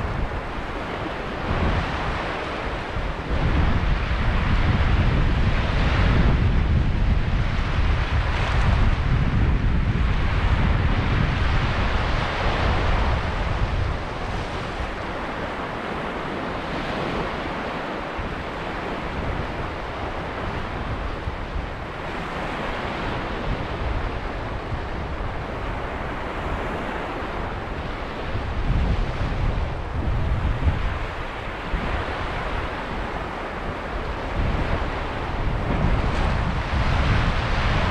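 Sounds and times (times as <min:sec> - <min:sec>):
waves washing over beach: 0:00.0 - 0:37.9
wind rumbling on microphone: 0:00.0 - 0:37.9.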